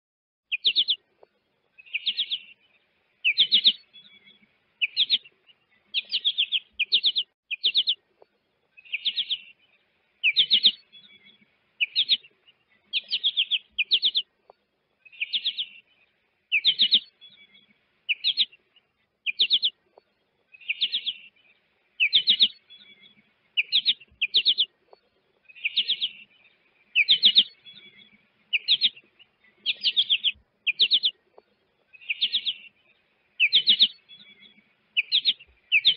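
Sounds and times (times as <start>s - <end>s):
finch chirping: 0.5s - 1.0s, 1.8s - 8.0s, 8.8s - 14.3s, 15.0s - 18.6s, 19.2s - 19.8s, 20.5s - 35.9s.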